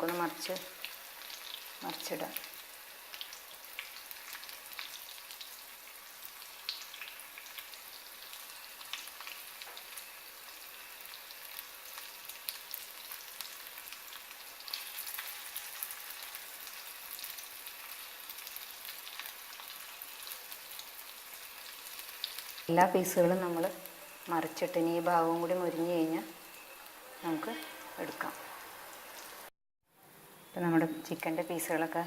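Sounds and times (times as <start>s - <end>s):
chicken frying in oil: 0.0s - 29.5s.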